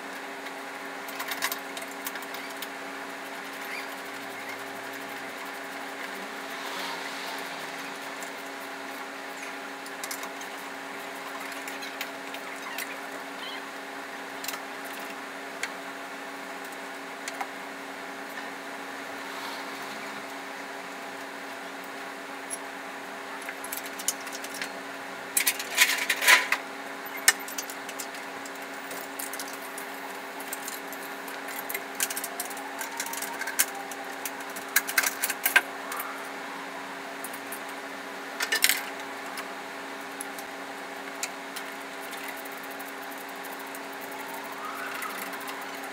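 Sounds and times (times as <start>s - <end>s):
steady hum: 0.0s - 45.9s.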